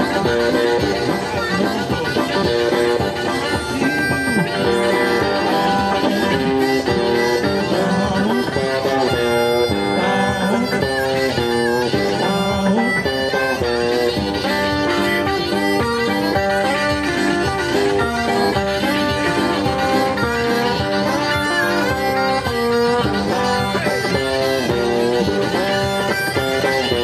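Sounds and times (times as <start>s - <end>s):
electric guitar: 0.0s - 27.0s
harmonica playing: 0.0s - 27.0s.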